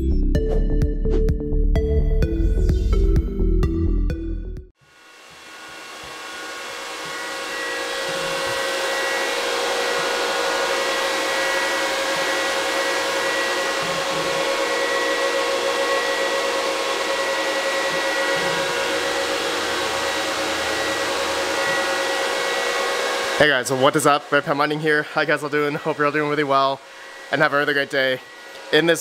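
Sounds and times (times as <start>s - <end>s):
cooling fans rushing air: 4.8s - 29.0s
high whine: 4.8s - 29.0s.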